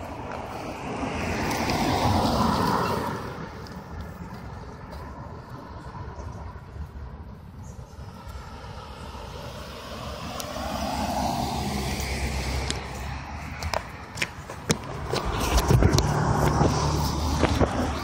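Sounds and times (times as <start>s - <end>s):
car passing on road: 0.0s - 18.0s.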